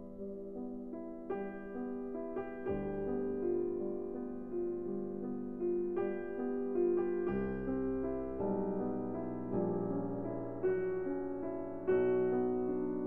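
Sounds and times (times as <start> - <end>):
slow gentle piano chords: 0.0 - 13.0.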